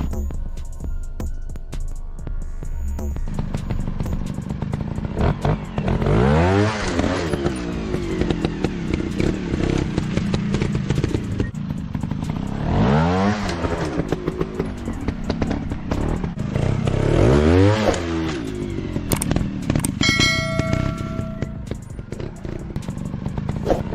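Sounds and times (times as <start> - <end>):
motorcycle engine revving: 2.6 - 23.9.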